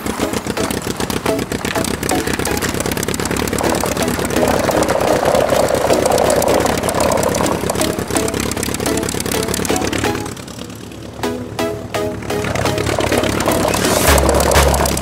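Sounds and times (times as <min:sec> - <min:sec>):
engine idling chugging: 0:00.0 - 0:15.0.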